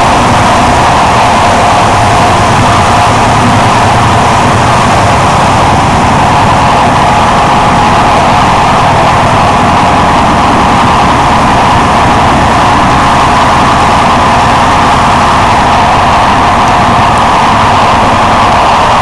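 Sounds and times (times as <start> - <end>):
train running on rails: 0.0 - 19.0.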